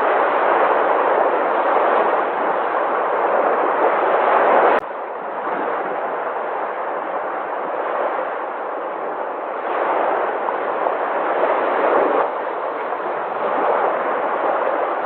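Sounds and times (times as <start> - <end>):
sea waves surf: 0.0 - 15.0.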